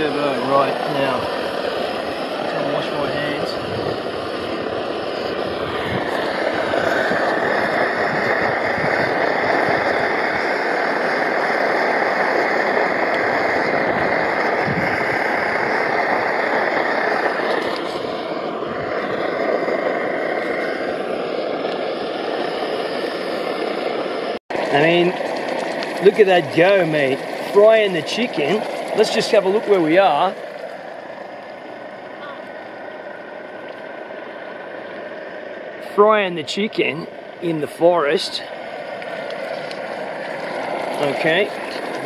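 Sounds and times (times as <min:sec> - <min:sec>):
stove burner rushing: 0:00.0 - 0:42.0.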